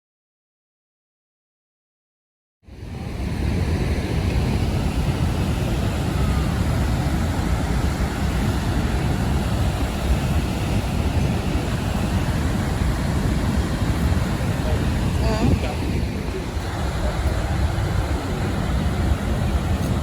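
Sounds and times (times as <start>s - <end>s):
wind buffeting microphone: 2.8s - 20.0s.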